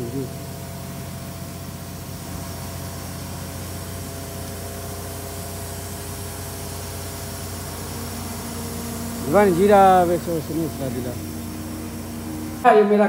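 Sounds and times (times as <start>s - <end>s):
even hiss: 0.0s - 13.0s
lift motor humming: 0.0s - 13.0s.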